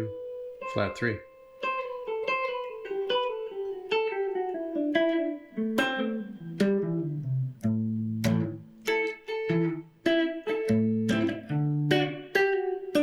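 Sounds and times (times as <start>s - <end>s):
guitar plucked notes descending: 0.0s - 13.0s.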